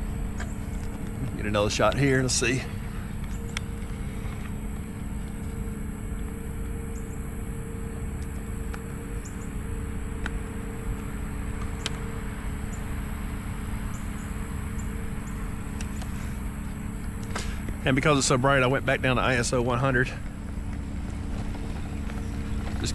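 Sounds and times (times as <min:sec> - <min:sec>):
high insect drone: 0:00.0 - 0:22.9
mechanical hum with low rumble: 0:00.0 - 0:22.9.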